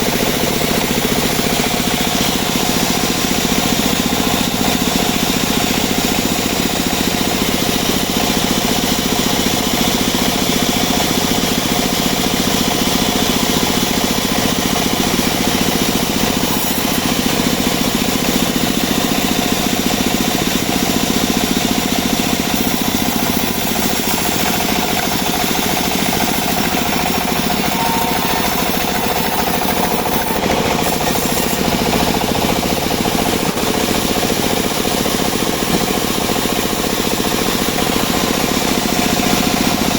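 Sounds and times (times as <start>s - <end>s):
bandsaw sawmill cutting wood: 0.0s - 39.9s.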